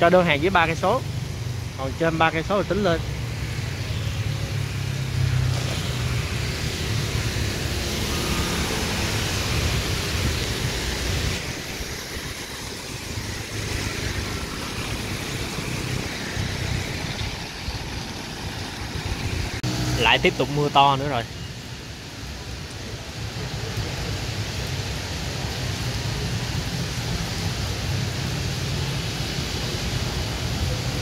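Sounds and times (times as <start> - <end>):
rain hiss on wet road: 0.0 - 31.0.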